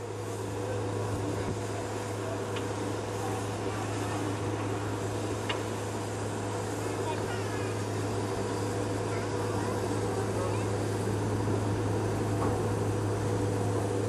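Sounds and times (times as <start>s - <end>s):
steam locomotive hissing and humming: 0.0s - 14.0s.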